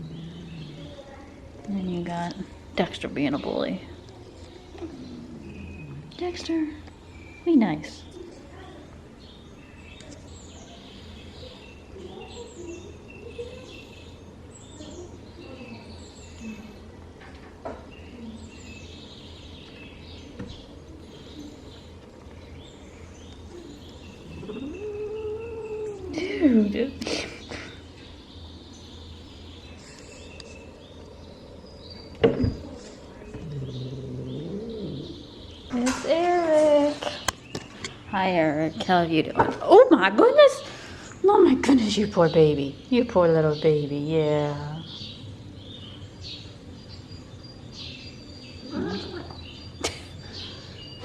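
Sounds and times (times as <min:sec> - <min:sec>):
birds chirping: 0:00.0 - 0:51.0
steady low hum: 0:00.0 - 0:51.0.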